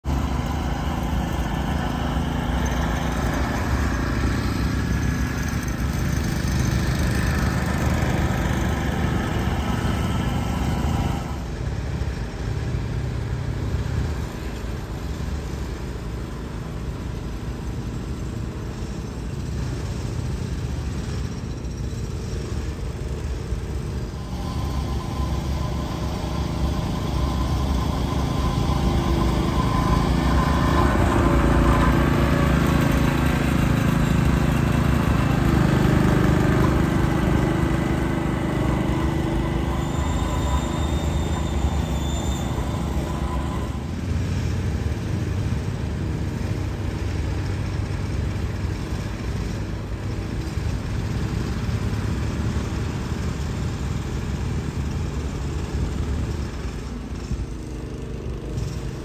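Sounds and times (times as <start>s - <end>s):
ride-on mower engine running: 0.0s - 59.0s.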